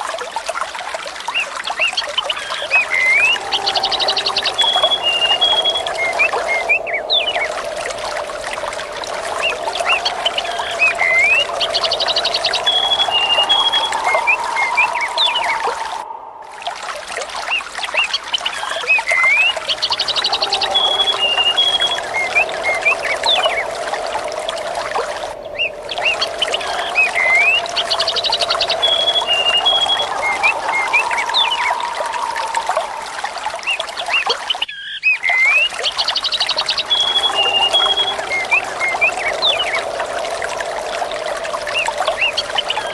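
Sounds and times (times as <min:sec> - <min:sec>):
trickling splashing water: 0:00.0 - 0:42.9
birds chirping: 0:02.0 - 0:16.4, 0:17.4 - 0:42.9.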